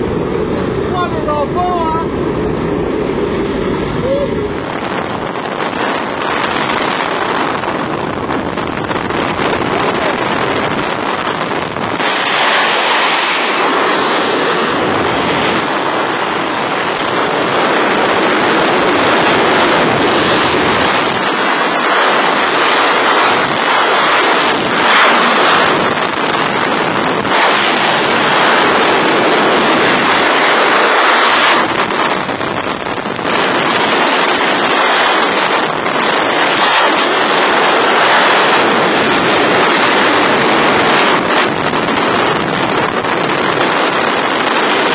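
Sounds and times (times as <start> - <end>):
aircraft engine and slipstream: 0.0 - 44.9
freefall wind rushing on microphone: 0.0 - 44.9.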